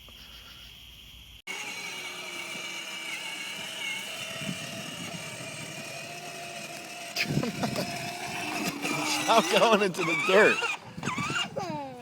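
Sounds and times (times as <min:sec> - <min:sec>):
small motor whining: 0:01.5 - 0:12.0.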